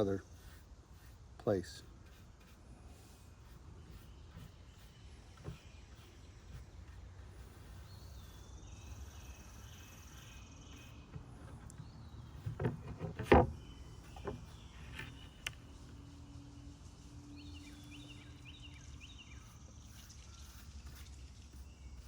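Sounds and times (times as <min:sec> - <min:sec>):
faint bird chirps: 0:00.0 - 0:12.7, 0:13.5 - 0:22.0.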